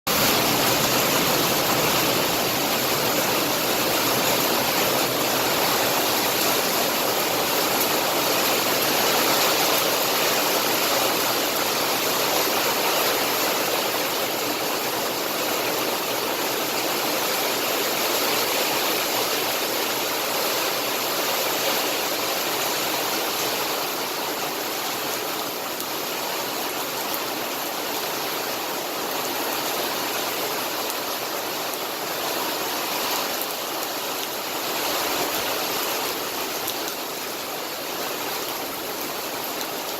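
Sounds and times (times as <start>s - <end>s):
rain pouring down: 0.1s - 39.9s.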